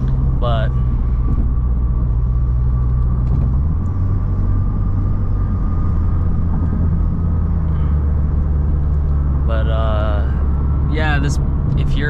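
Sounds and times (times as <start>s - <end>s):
car engine drone: 0.0s - 12.0s.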